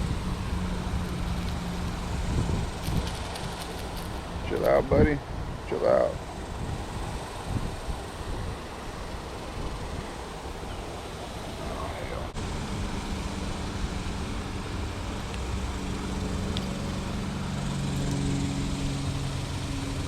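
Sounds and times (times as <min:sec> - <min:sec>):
outdoor background noise: 0:00.0 - 0:20.0
vehicle engine running: 0:00.0 - 0:20.0.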